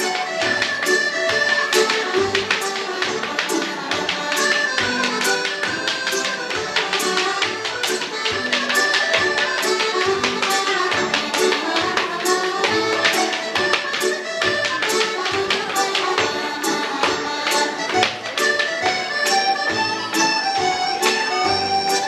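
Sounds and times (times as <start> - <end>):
fiddle dance tune: 0.0 - 22.0.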